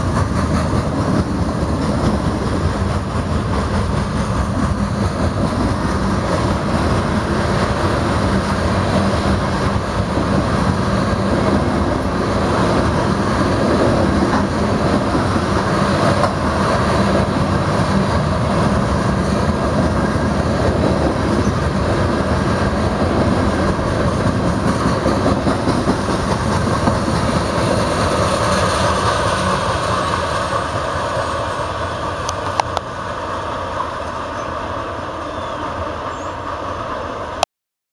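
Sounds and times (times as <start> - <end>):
train wheels rumbling and clattering: 0.0 - 37.4.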